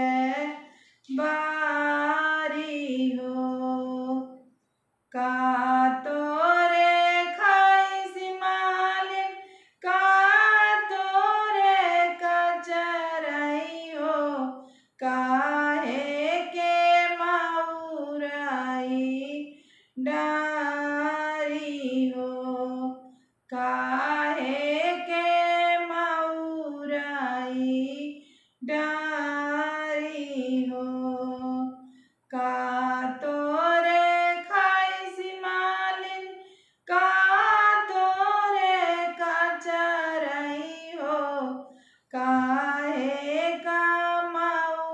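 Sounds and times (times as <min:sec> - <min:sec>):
woman singing unaccompanied: 0:00.0 - 0:04.4, 0:05.1 - 0:44.9.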